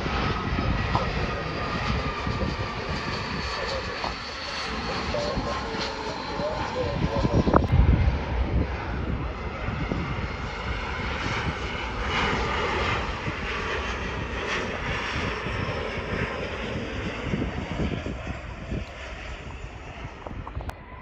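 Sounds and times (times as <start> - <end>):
jet airliner engines passing: 0.0 - 21.0.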